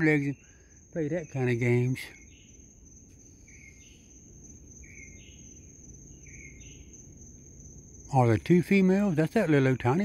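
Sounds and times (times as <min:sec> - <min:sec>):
high-pitched cricket drone: 0:00.0 - 0:10.0.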